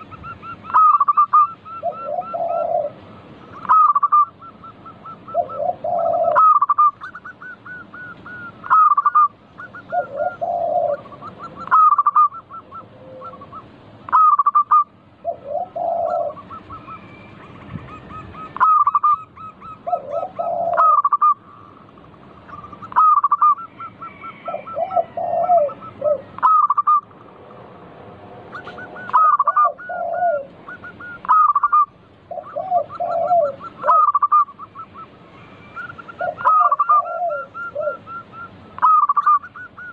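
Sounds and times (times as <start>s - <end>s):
doves cooing: 0.0s - 27.2s, 28.4s - 39.9s.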